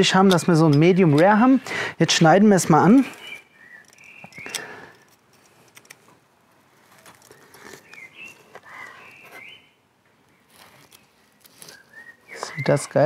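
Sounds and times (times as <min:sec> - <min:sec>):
birds chirping: 0:00.0 - 0:05.1, 0:06.9 - 0:13.0.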